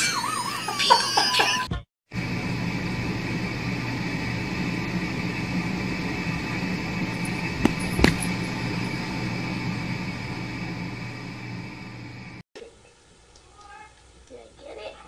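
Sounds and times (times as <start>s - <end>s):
droning hum with hiss: 2.2s - 14.7s.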